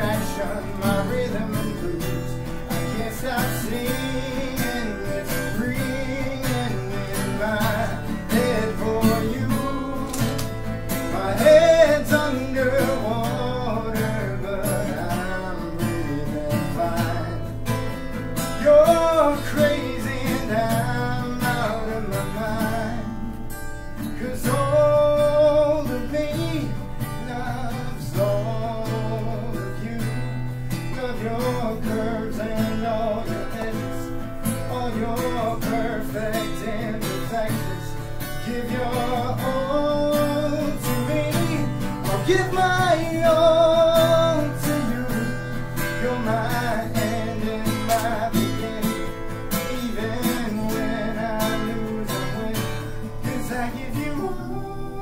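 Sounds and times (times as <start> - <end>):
acoustic guitar melody: 0.0 - 55.0.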